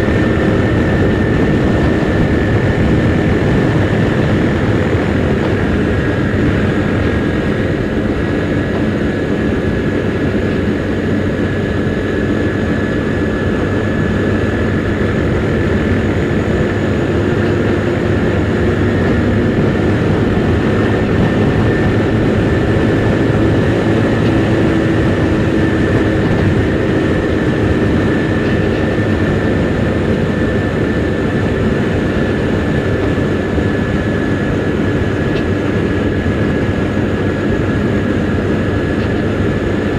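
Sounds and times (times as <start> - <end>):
rush of riding wind: 0.0 - 39.9
scooter engine running: 0.0 - 39.9.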